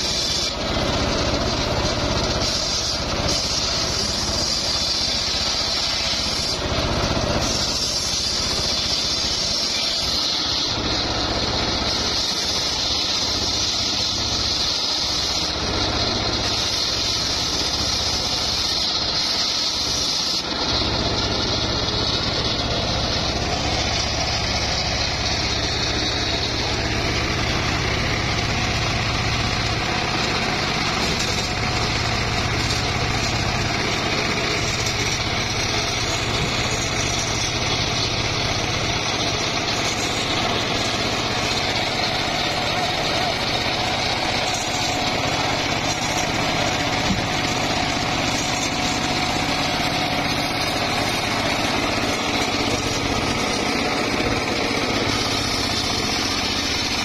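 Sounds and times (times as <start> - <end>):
engine-driven circular saw running: 0.0 - 57.0
saw blade ripping wood: 0.0 - 57.0.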